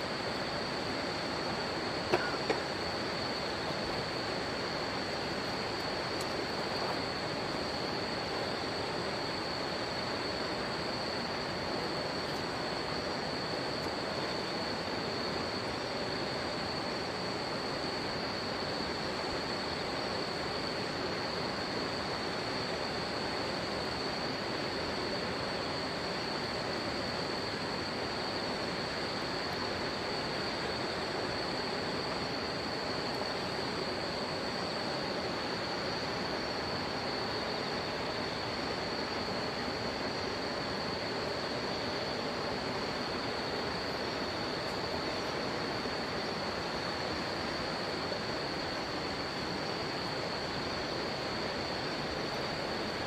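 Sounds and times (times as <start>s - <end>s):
insects chirring: 0.0s - 53.0s.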